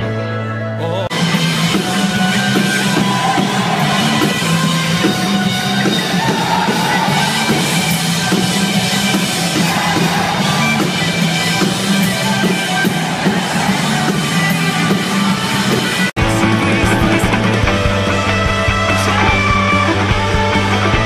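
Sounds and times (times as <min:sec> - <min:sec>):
electric guitar: 0:00.0 - 0:21.0
drum kit: 0:01.1 - 0:21.0.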